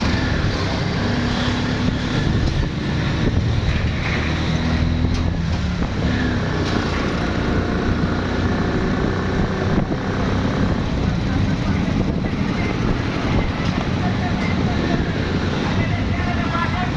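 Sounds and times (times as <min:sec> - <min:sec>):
road noise: 0:00.0 - 0:16.9
vehicle engine hum: 0:00.0 - 0:16.9.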